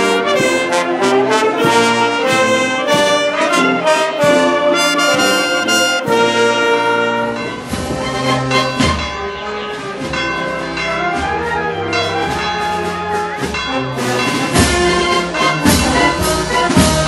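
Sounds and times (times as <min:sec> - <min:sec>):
loud percussion strikes: 0:00.0 - 0:17.0
marching band playing: 0:00.0 - 0:17.0.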